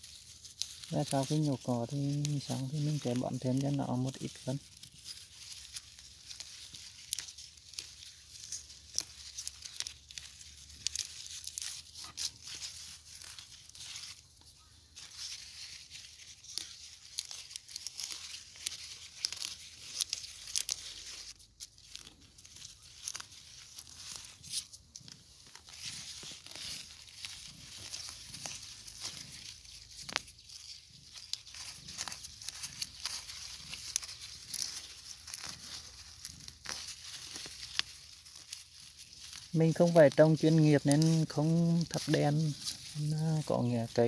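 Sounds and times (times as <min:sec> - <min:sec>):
leaves rustling and tearing: 0:00.0 - 0:44.0.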